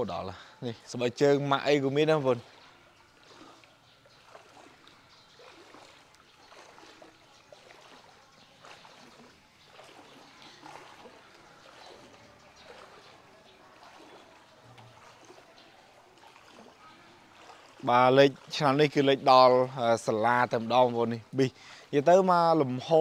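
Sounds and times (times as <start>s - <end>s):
faint trickling floodwater: 0.0s - 23.0s.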